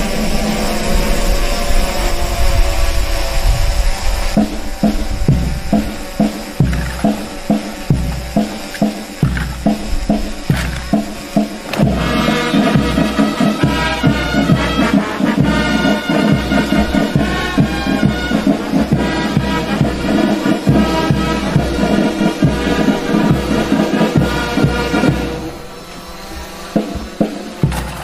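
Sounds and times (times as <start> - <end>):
brass band playing a march: 3.9 - 28.0
steady drum beat: 4.0 - 28.0.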